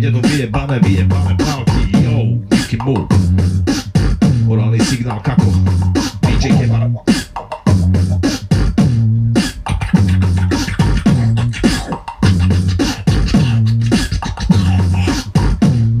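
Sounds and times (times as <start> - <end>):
beatbox bass notes: 0.0 - 16.0
beatbox snare and hi-hat clicks: 0.2 - 16.0.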